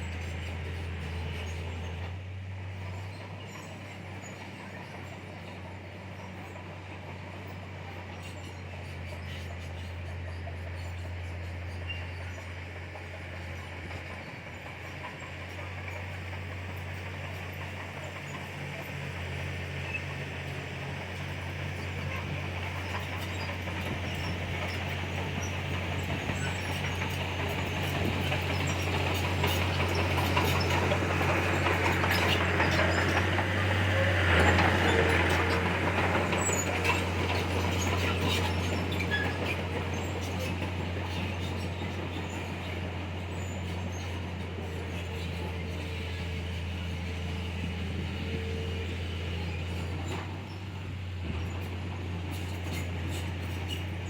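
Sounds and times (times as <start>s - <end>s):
bulldozer diesel engine under load: 0.0s - 54.0s
steel tracks clanking: 3.0s - 54.0s.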